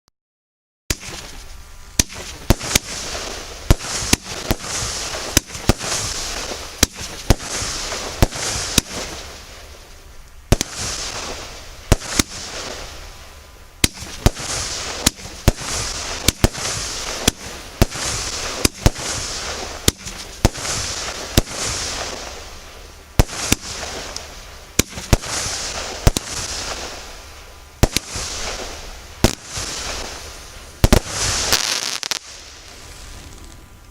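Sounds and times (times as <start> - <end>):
fireworks bangs: 0.9 - 33.8
fireworks hiss and crackle: 0.9 - 33.9.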